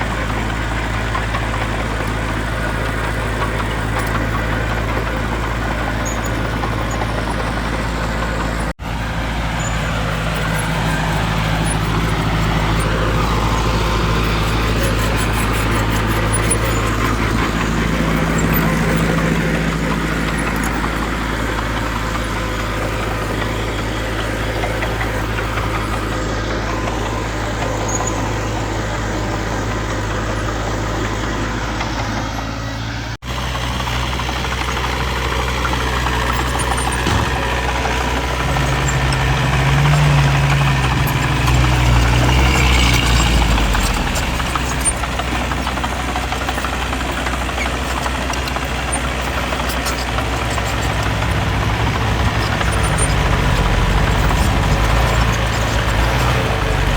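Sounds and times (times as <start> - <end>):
diesel engines running: 0.0 - 56.9.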